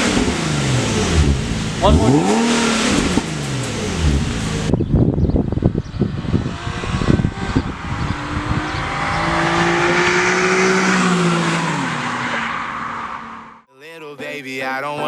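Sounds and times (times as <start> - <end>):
car engine revving: 0.0 - 13.7.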